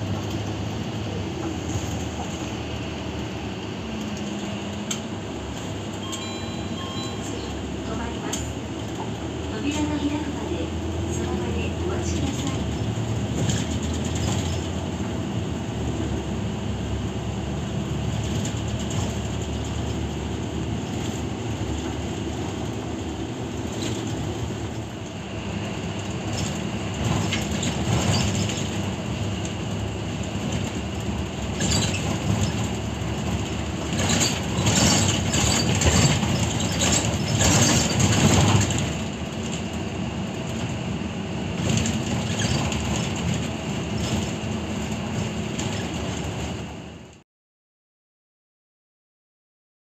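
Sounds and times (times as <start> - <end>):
bus engine drone and road noise: 0.0 - 47.2.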